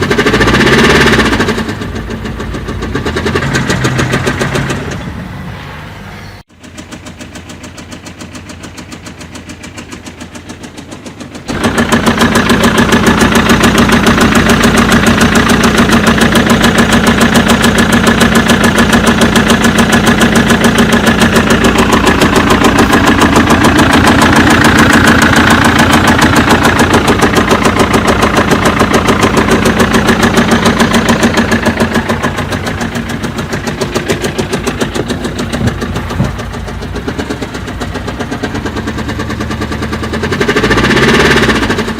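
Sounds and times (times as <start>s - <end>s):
diesel engine with tapping knock: 0.0s - 5.5s, 6.5s - 41.9s.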